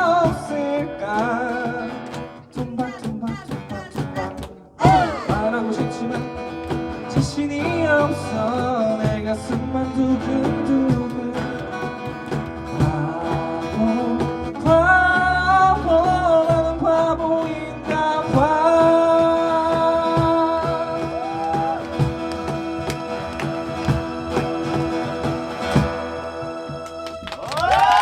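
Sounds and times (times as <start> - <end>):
strummed guitar: 0.0 - 27.3
acoustic band music: 0.0 - 28.0.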